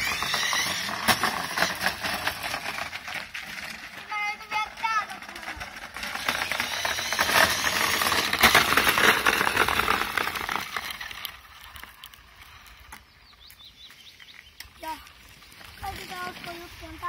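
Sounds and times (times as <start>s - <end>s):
scooter wheels rattling over gravel: 0.0s - 17.0s.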